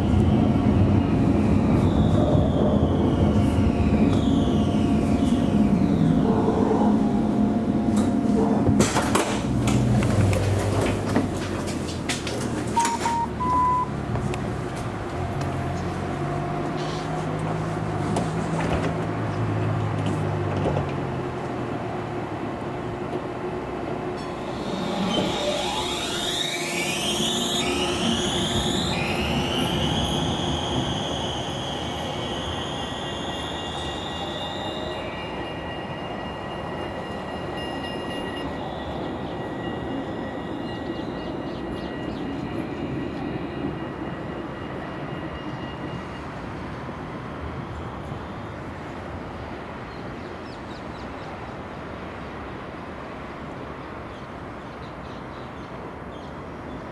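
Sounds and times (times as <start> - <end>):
tram electric drive whine: 0.0 - 55.2
tram running noise: 0.0 - 56.9.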